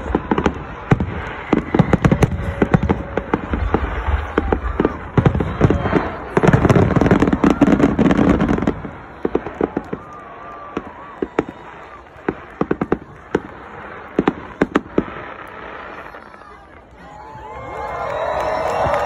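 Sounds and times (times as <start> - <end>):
fireworks sharp pops: 0.0 - 16.1
fireworks crackling bangs: 0.0 - 19.0.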